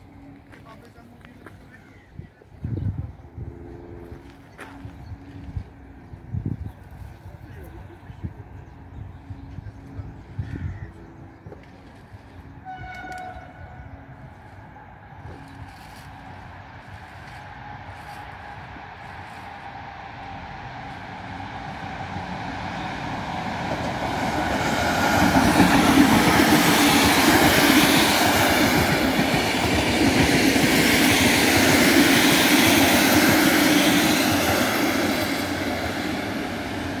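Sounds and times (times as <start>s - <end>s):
train wheels on rails: 2.8s - 37.0s.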